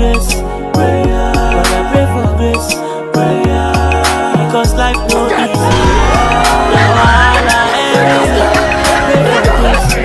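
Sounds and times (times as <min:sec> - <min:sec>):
music with deep bass and drums: 0:00.0 - 0:10.0.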